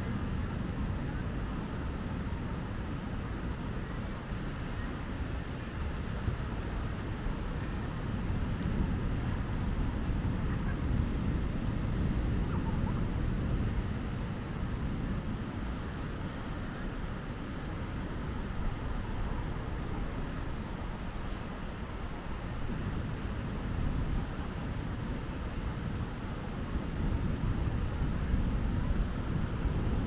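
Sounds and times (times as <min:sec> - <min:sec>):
surf rumbling: 0:00.0 - 0:30.0
wind: 0:00.0 - 0:30.0.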